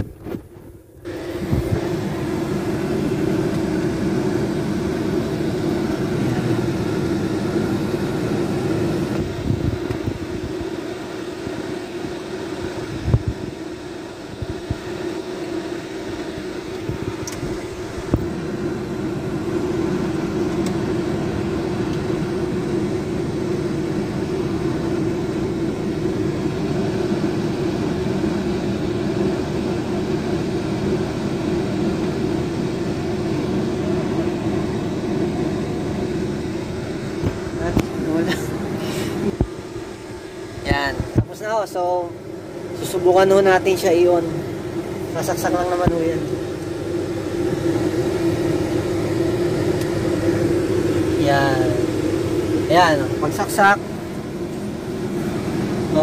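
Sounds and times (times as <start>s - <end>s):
car engine humming: 0.0s - 56.0s.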